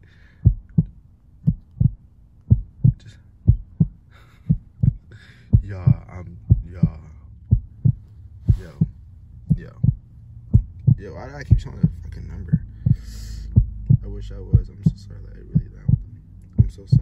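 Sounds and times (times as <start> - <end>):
low steady hum: 0.0 - 17.0
heartbeat thumps: 0.4 - 17.0.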